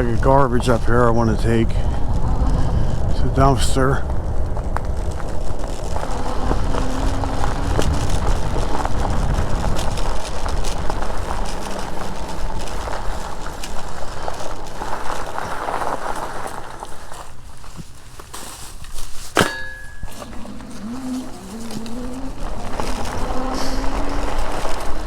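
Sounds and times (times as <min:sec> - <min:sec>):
wind rumbling on microphone: 0:00.0 - 0:18.0, 0:18.7 - 0:25.0
tyre and road noise: 0:00.0 - 0:25.0.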